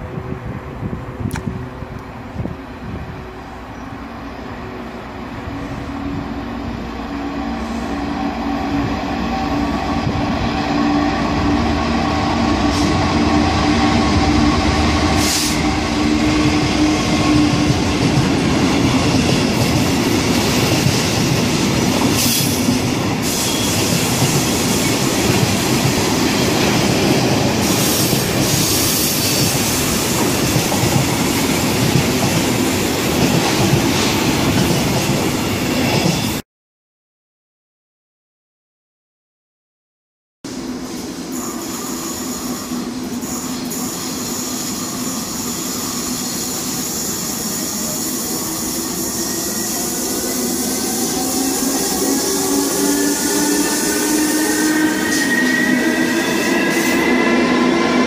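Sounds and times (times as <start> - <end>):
freight train passing: 0.0 - 36.4, 40.5 - 58.0.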